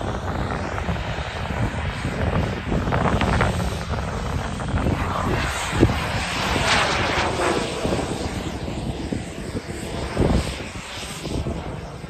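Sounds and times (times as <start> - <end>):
model jet turbine whine: 0.0 - 12.0.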